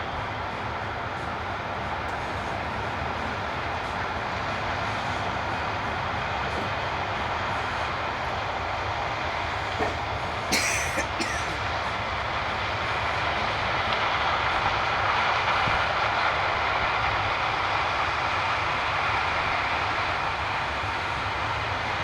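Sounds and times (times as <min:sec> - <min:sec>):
harvest machinery running: 0:00.0 - 0:22.0.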